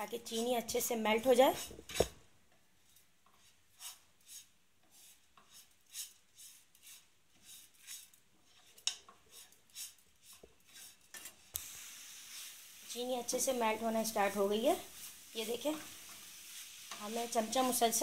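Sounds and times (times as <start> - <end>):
spoon scraping a pan: 0.3 - 2.2, 2.9 - 11.4, 12.2 - 12.6, 13.4 - 18.0.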